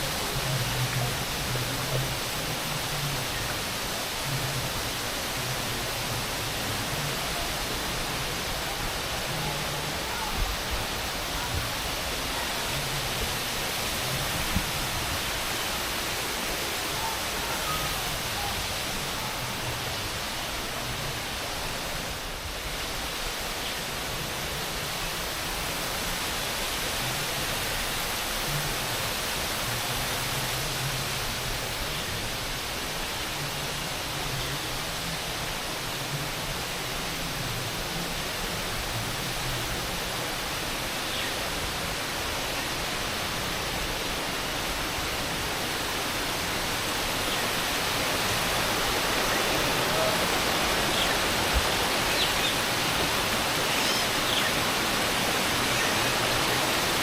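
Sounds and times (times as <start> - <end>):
rushing water noise: 0.0 - 57.0.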